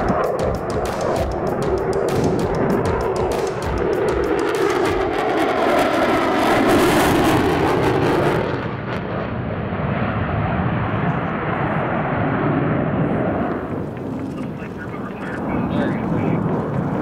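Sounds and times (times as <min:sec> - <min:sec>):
jet engine roar with crackle: 0:00.0 - 0:17.0.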